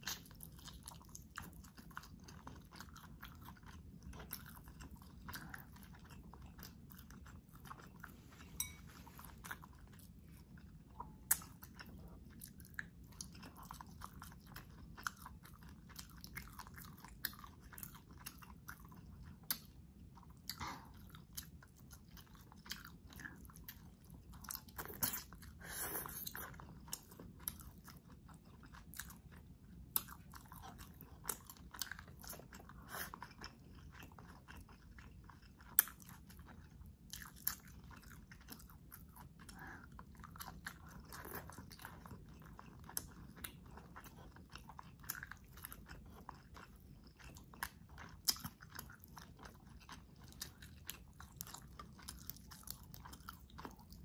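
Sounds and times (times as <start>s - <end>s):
person chewing and biting food: 0.0s - 54.0s.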